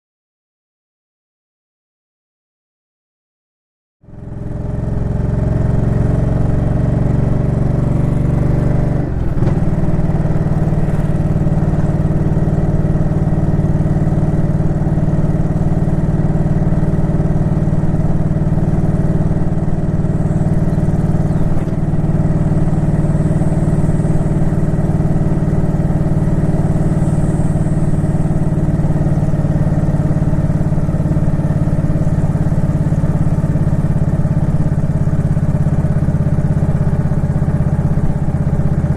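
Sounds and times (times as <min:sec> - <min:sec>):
motorcycle engine running: 0:04.0 - 0:38.9.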